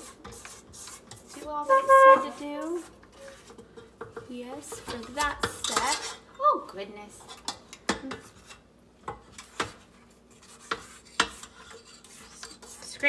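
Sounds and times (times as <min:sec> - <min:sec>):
spatula scraping metal bowl: 0:00.0 - 0:06.3, 0:07.2 - 0:13.0.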